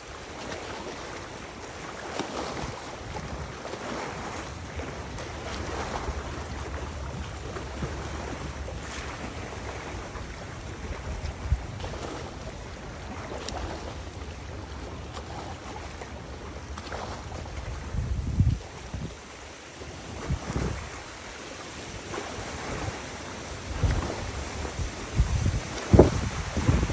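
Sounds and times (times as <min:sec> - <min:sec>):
river water: 0:00.0 - 0:26.9
wind buffeting microphone: 0:00.0 - 0:26.9.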